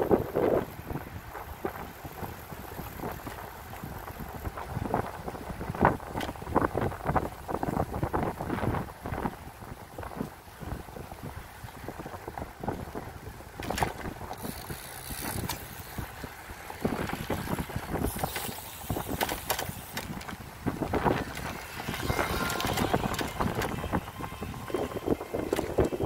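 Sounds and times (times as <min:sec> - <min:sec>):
bicycle rolling on pavement: 0:00.0 - 0:26.0
bike clicks and rattles: 0:00.0 - 0:26.0
wind buffeting microphone: 0:00.0 - 0:26.0.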